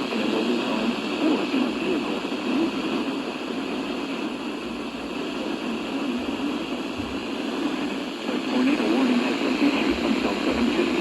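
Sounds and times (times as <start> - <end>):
radio hiss and static: 0.0 - 11.0.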